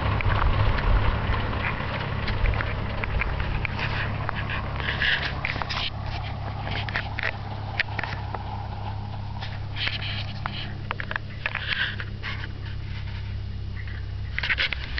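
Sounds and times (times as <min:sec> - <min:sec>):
car engine idling with rod knock: 0:00.0 - 0:14.9.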